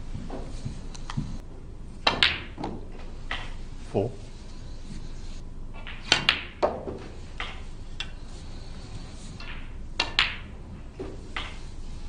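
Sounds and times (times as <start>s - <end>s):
snooker balls clicking: 0.1s - 3.7s, 4.4s - 12.0s.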